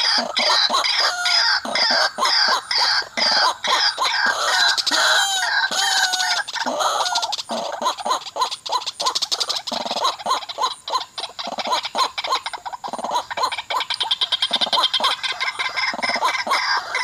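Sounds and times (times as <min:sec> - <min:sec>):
waterhens calling: 0:00.0 - 0:17.0.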